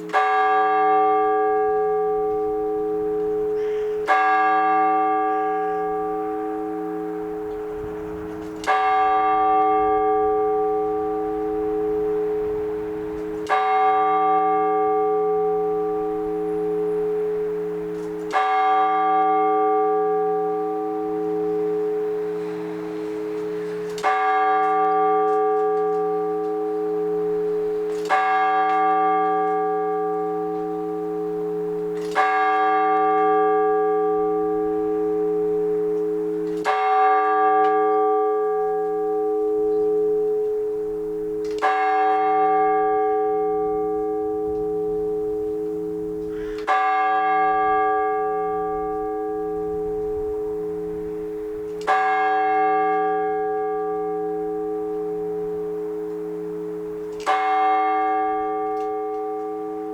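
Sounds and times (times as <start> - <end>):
church bell struck slowly: 0.0 - 59.9.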